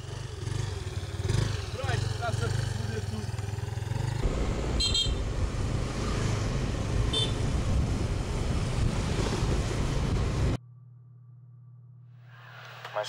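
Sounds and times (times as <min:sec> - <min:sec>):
motor scooter running: 0:00.0 - 0:10.6.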